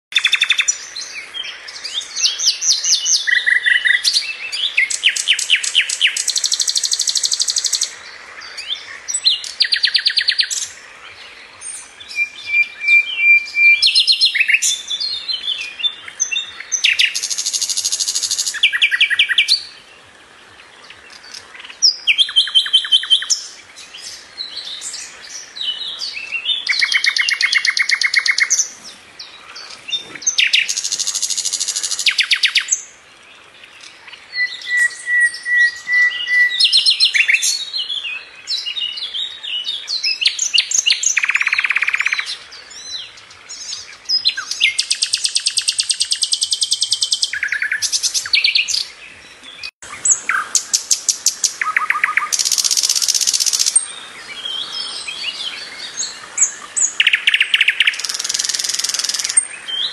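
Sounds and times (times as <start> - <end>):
nightingale singing: 0.1 - 59.9.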